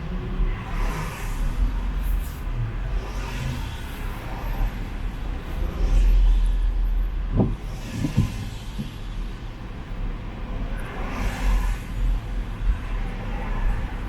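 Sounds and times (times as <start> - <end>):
cars passing by: 0.0 - 14.0
low traffic rumble: 0.0 - 14.0.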